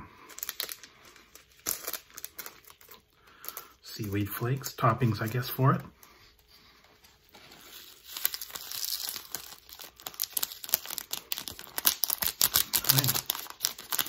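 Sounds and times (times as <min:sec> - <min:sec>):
plastic packet crinkling: 0:00.3 - 0:05.8, 0:07.0 - 0:14.0.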